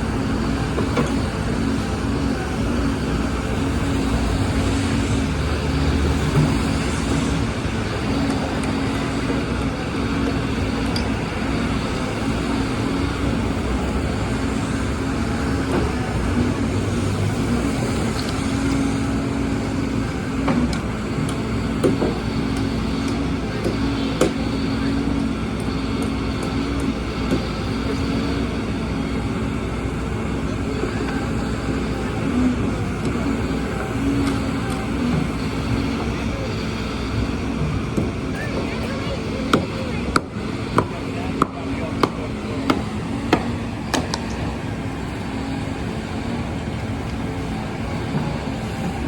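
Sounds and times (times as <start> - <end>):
heavy engine humming: 0.0 - 49.0
urban rumble: 0.0 - 49.0.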